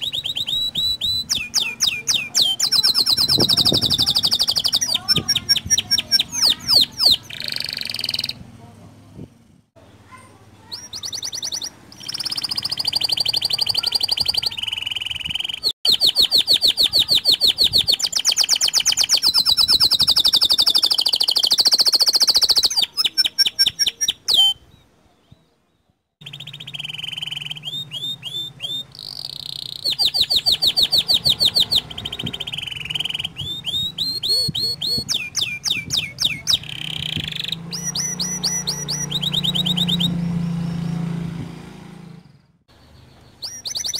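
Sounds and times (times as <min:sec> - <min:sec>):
canary singing fast trills: 0:00.0 - 0:08.5, 0:09.8 - 0:25.4, 0:26.2 - 0:43.9.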